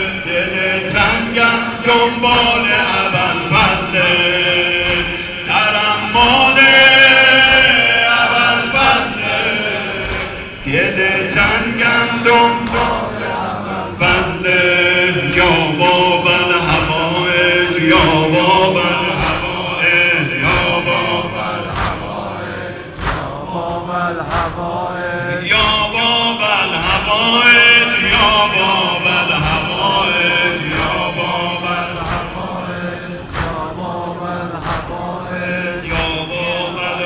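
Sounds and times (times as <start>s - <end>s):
crowd beating chests: 0.0s - 37.0s
men singing a lament: 0.0s - 37.0s.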